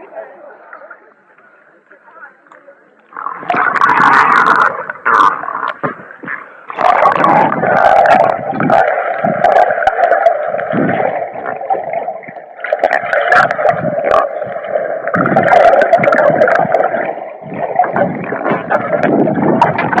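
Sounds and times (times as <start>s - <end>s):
sharp underwater clicks: 2.5s - 20.0s
muffled water sloshing and gurgling: 3.1s - 20.0s.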